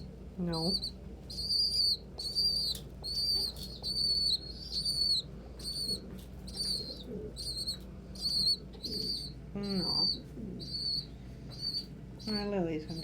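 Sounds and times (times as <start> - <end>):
low steady hum: 0.0 - 13.0
young pigeon peeping: 0.0 - 13.0.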